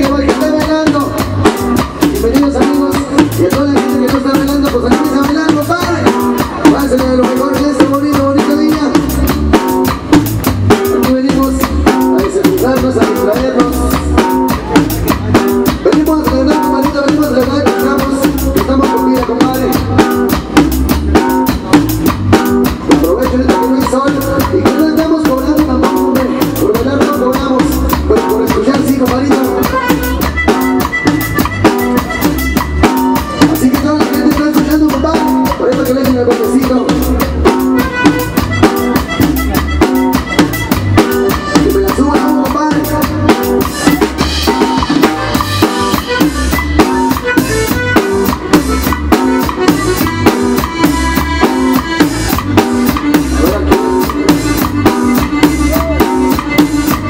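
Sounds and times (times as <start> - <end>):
button accordion: 0.0 - 57.0
cumbia band playing: 0.0 - 57.0
drum kit beat: 0.0 - 57.0.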